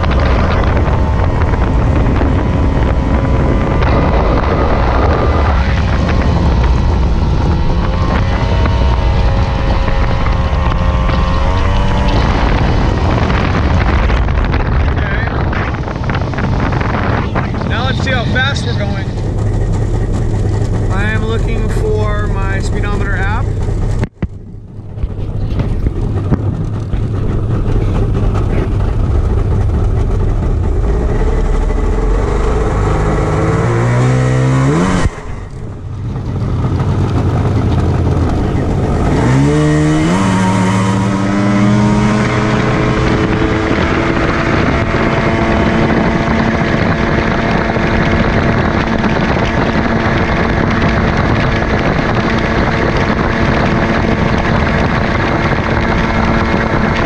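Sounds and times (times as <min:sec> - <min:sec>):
jet outboard motor: 0:00.0 - 0:57.0
rushing wind and water: 0:00.0 - 0:57.0.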